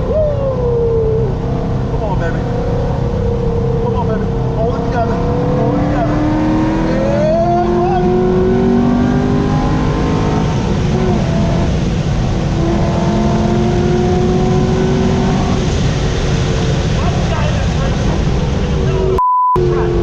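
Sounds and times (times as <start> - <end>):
car engine revving hard: 1.4 - 20.0.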